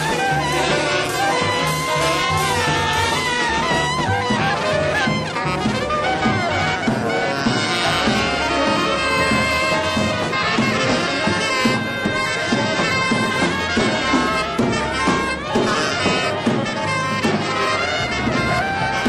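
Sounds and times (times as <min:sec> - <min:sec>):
free jazz big band: 0:00.0 - 0:19.0.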